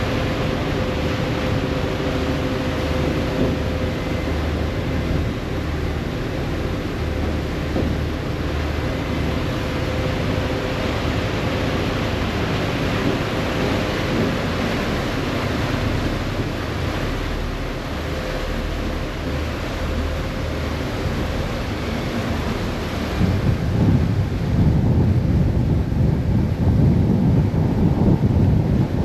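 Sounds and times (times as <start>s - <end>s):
ferry engine drone: 0.0s - 29.0s
water rushing along hull: 0.0s - 29.0s
wind on microphone: 0.0s - 29.0s.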